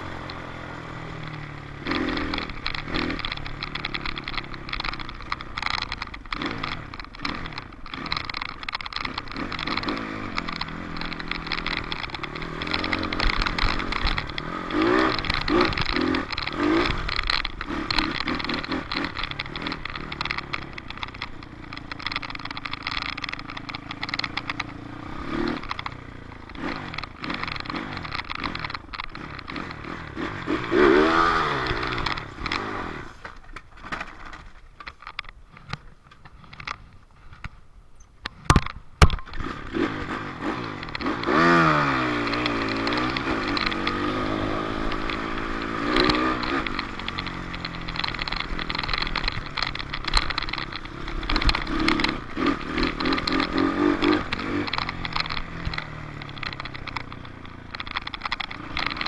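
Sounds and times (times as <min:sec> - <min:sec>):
dirt bike engine revving: 0:00.0 - 0:33.3, 0:39.2 - 0:59.0.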